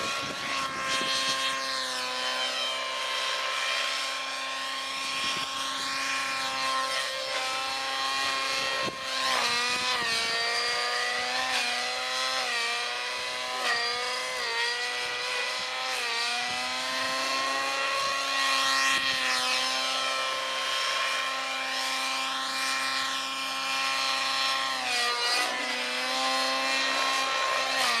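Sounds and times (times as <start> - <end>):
model helicopter whining: 0.0 - 28.0.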